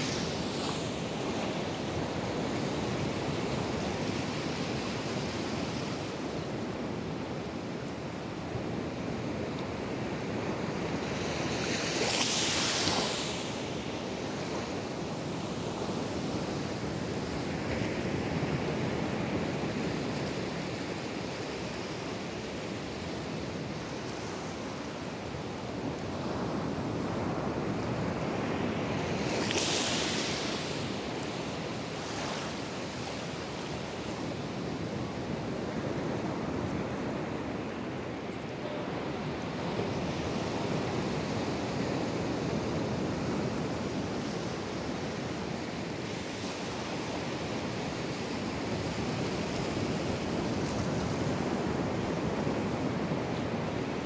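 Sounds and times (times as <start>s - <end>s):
surf breaking and washing: 0.0s - 6.8s, 9.6s - 54.0s.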